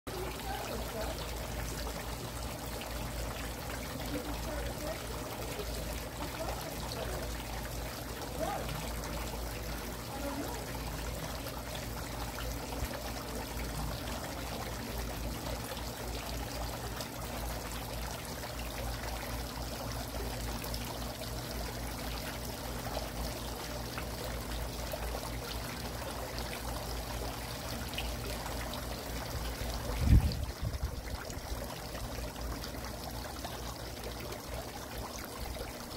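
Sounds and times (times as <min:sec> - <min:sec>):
garden water fountain splashing: 0:00.1 - 0:35.9.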